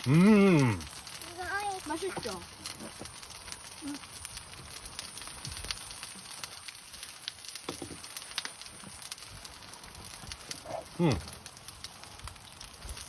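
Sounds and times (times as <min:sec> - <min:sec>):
crackles and pops of frying: 0:00.0 - 0:13.0.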